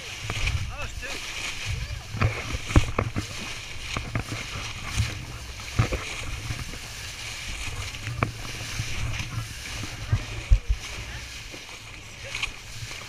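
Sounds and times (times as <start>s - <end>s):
sharp splashes or knocks: 0.0s - 13.0s
water rushing at boat bow: 0.0s - 13.0s.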